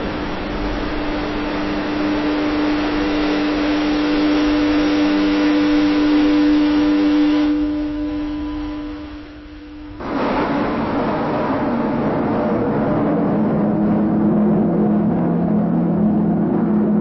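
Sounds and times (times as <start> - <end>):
factory machinery drone: 0.0 - 17.0.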